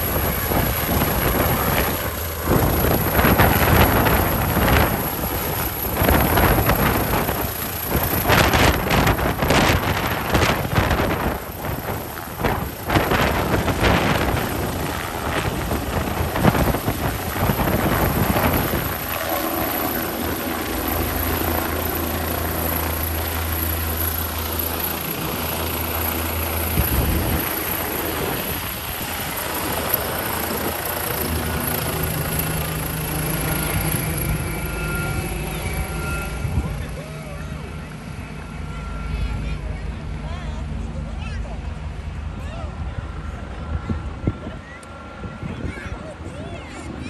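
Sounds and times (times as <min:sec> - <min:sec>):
helicopter rotors and turbines: 0:00.0 - 0:47.0.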